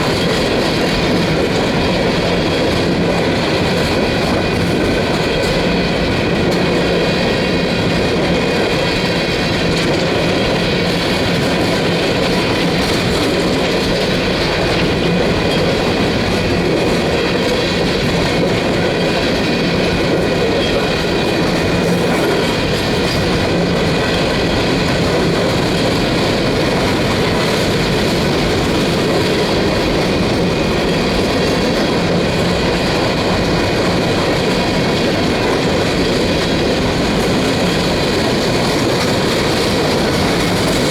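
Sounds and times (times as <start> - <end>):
freight train wheels rumbling on rail: 0.0 - 40.9.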